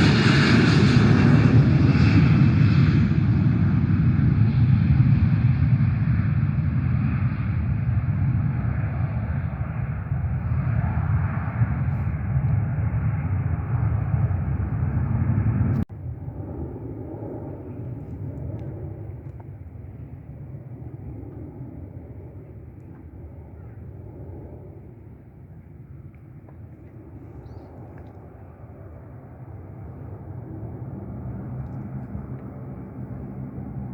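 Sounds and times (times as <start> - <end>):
airliner engines rumbling: 0.0 - 33.9.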